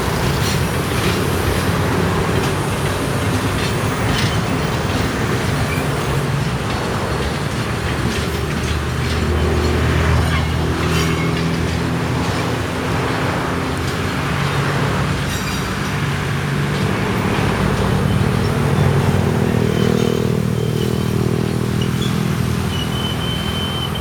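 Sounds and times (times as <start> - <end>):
locomotive diesel engine drone: 0.0 - 24.0.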